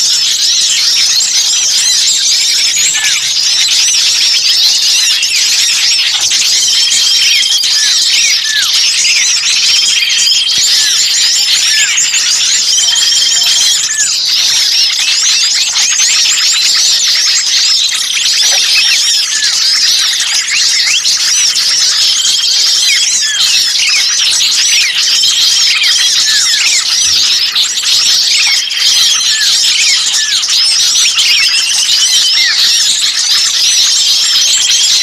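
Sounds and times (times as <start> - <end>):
songbirds chirping chorus: 0.0 - 35.0.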